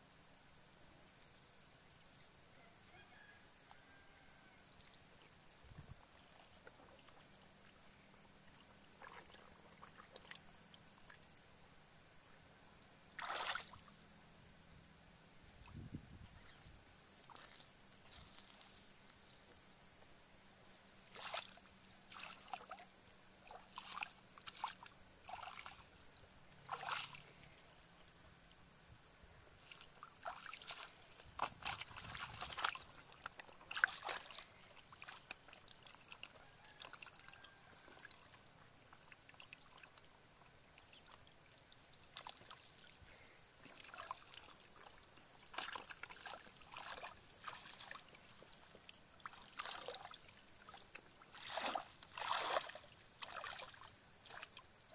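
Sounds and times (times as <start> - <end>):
splashing in shallow muddy water: 3.6 - 12.2, 12.8 - 14.4, 15.4 - 19.8, 20.5 - 54.9.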